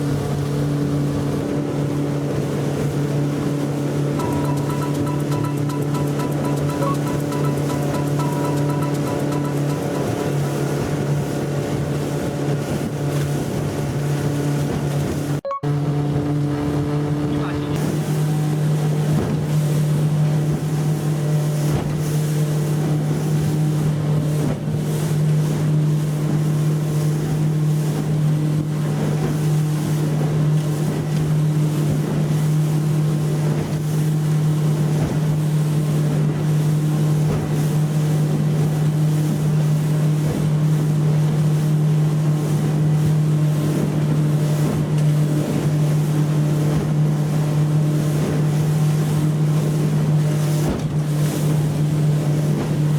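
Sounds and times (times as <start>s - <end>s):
outboard motor droning: 0.0s - 52.9s
water rushing past hull: 0.0s - 52.9s.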